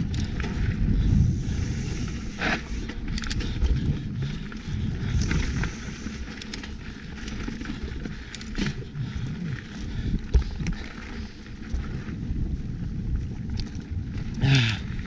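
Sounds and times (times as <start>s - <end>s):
bike rattling clicks and knocks: 0.0s - 15.0s
wind buffeting microphone: 0.0s - 15.0s.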